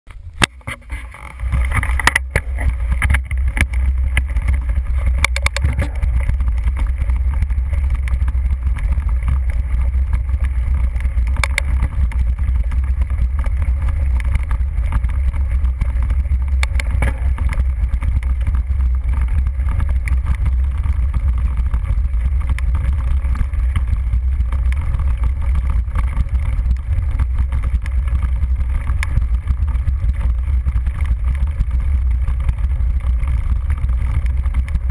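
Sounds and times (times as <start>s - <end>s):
bike frame vibration: 0.1s - 34.9s
bike rolling over grass: 0.1s - 34.9s.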